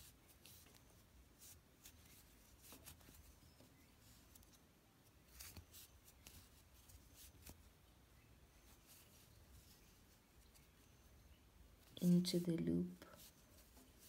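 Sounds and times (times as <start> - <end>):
yarn rustling over crochet hook: 0.0 - 7.8, 8.4 - 14.0.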